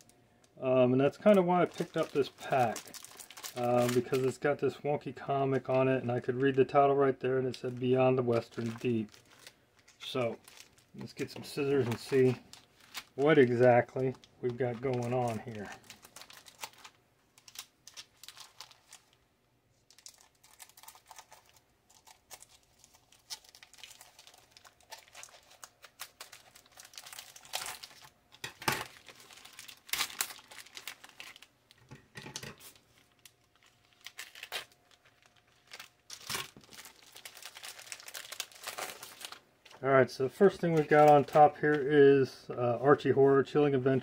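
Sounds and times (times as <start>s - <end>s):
plastic wrapping crinkling and tearing: 1.0s - 41.9s.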